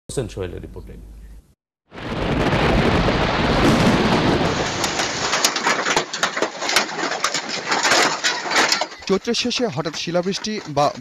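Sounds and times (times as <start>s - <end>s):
hail pelting the ground: 1.9s - 11.0s.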